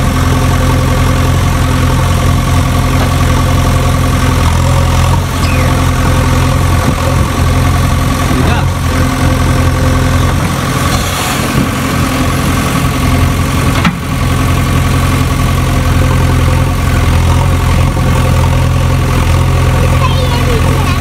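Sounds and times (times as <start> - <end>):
heavy engine idling: 0.0 - 21.0.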